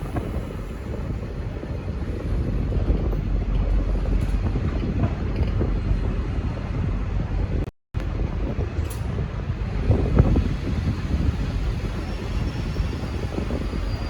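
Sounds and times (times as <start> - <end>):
diesel locomotive rumbling: 0.0 - 14.0
wind buffeting microphone: 0.0 - 14.0.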